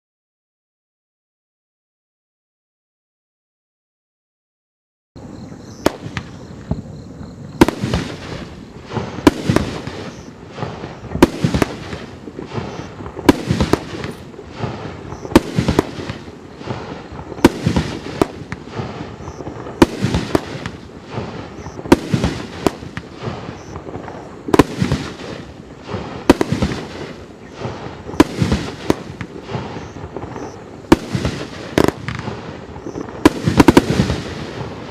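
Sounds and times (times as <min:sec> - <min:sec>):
firework cake popping: 0:05.8 - 0:34.9.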